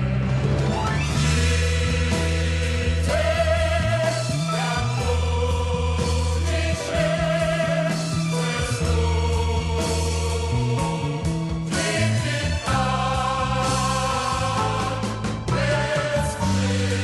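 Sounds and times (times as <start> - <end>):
bass guitar: 0.0 - 17.0
drums: 0.0 - 17.0
choir-like group vocals: 1.1 - 17.0.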